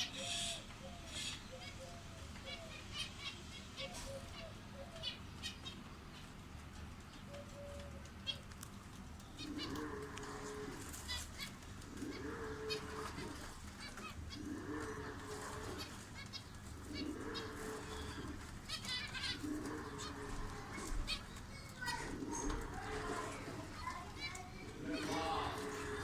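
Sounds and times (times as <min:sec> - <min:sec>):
dove cooing: 0:00.0 - 0:06.3, 0:07.1 - 0:08.5, 0:09.2 - 0:26.0
small birds chirping: 0:00.0 - 0:26.0.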